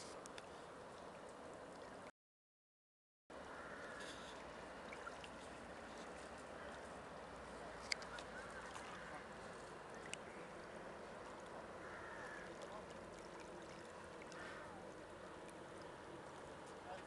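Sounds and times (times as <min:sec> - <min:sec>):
faint lake water washing: 0:00.0 - 0:02.1, 0:03.4 - 0:17.0.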